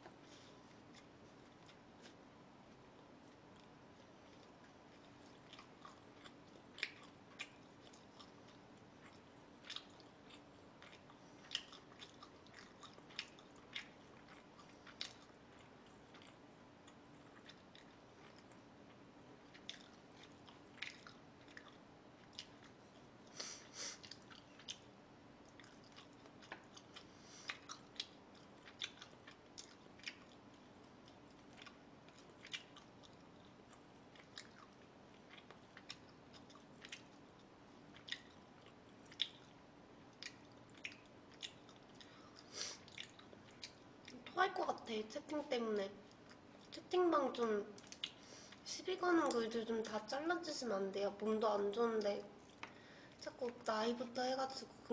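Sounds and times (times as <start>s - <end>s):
person chewing food: 0.0s - 44.3s, 46.0s - 46.8s, 47.8s - 48.6s, 52.4s - 53.2s.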